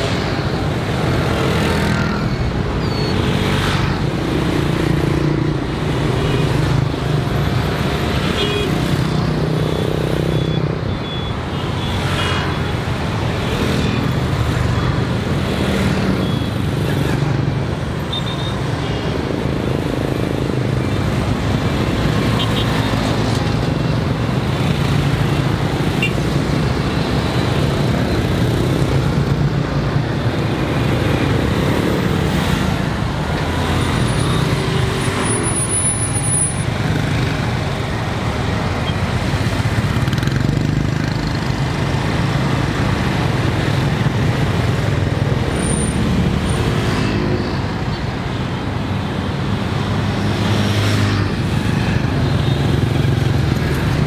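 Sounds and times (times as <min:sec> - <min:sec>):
cars passing: 0:00.0 - 0:54.0
motorbike and scooter engines: 0:00.0 - 0:54.0.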